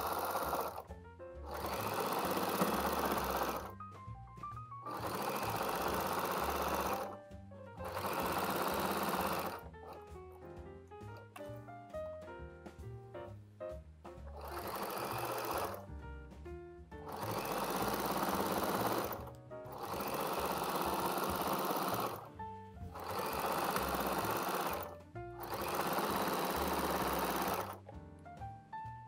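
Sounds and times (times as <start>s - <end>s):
sewing machine stitching: 0.0s - 11.6s, 14.2s - 15.9s, 16.9s - 28.0s
background music: 0.0s - 29.0s.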